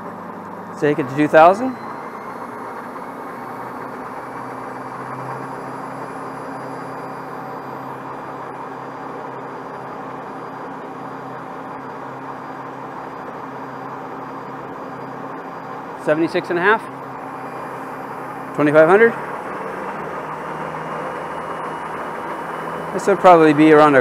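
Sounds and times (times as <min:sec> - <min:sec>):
electric motor hum and whine: 0:00.0 - 0:24.0.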